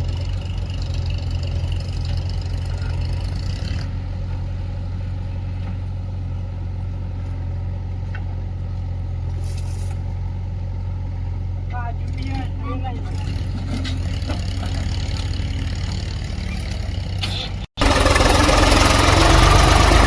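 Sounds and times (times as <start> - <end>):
heavy diesel engine humming: 0.0 - 20.0.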